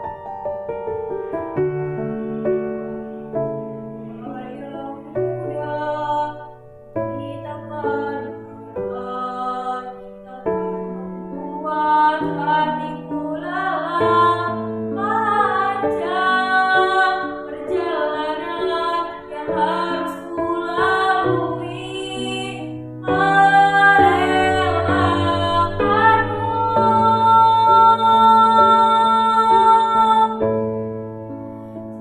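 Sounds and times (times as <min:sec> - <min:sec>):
girl singing: 0:04.2 - 0:30.4.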